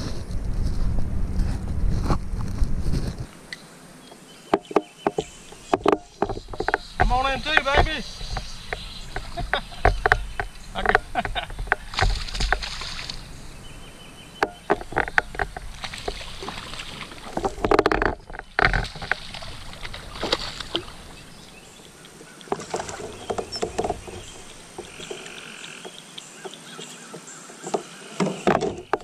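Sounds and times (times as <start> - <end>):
water splashes: 4.5 - 29.0.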